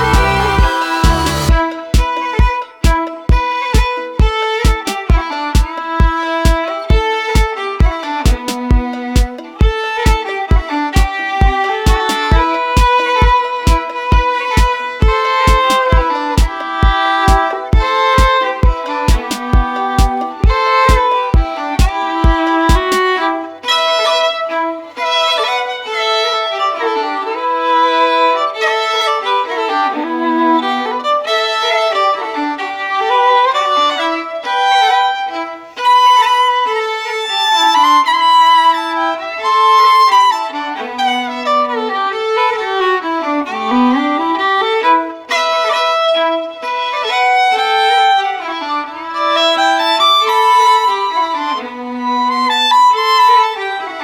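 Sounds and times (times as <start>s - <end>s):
violin melody: 0.0s - 54.0s.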